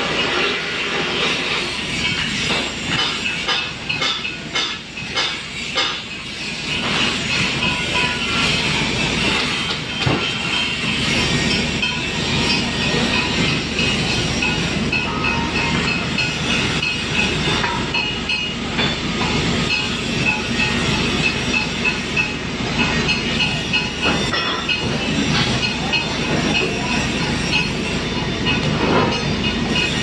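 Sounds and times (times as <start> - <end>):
angle grinders whining on steel: 0.0 - 30.0.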